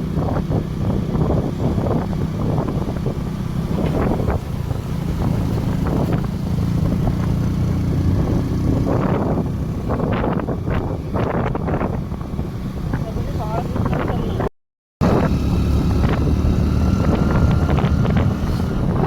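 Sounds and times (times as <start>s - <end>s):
vehicle engine drone: 0.0s - 19.0s
wind buffeting microphone: 0.0s - 19.0s.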